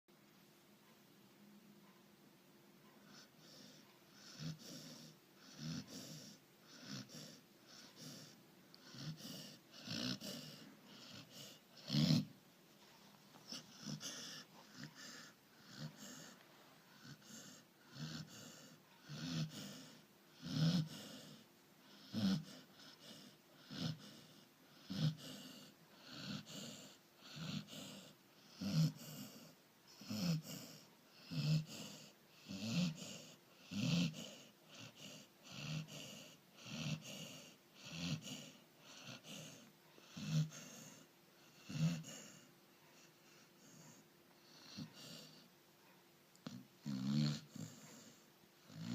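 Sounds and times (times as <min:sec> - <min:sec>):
dog snoring: 0:03.0 - 0:12.4, 0:13.3 - 0:45.5, 0:46.3 - 0:48.9.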